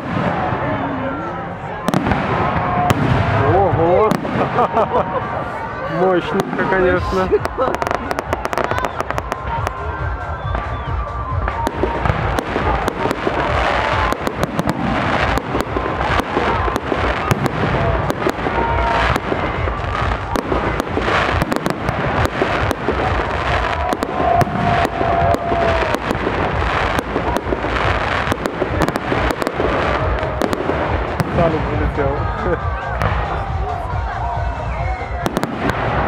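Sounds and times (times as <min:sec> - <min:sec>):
fireworks bursting: 0:00.0 - 0:36.0
fireworks crackling: 0:00.0 - 0:36.0.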